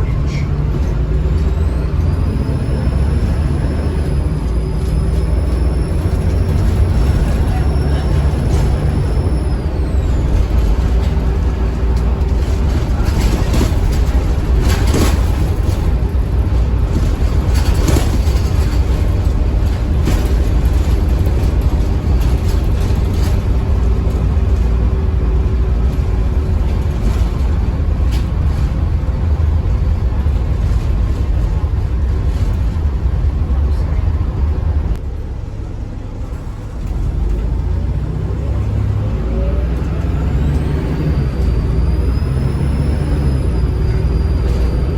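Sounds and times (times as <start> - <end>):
bus engine rumbling: 0.0 - 44.9.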